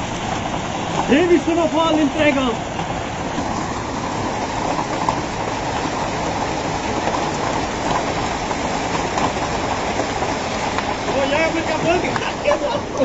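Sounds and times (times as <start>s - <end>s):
hail and heavy rain: 0.0s - 13.0s.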